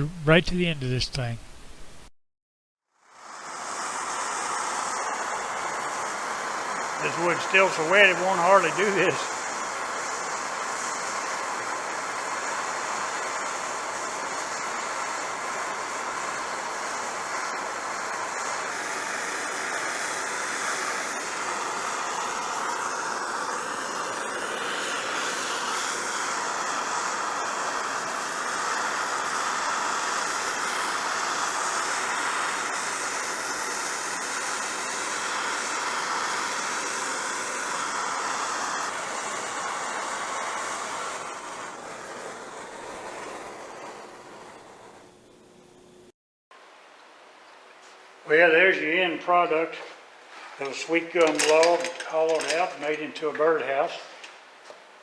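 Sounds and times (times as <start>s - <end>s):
torch flame hissing: 2.9s - 46.1s, 50.0s - 54.0s.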